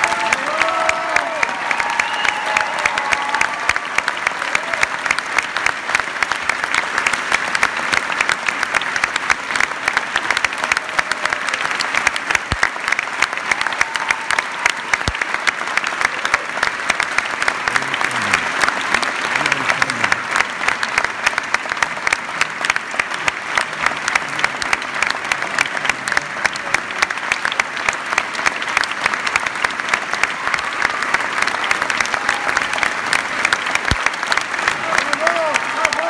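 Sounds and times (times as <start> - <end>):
audience applauding: 0.0 - 36.0.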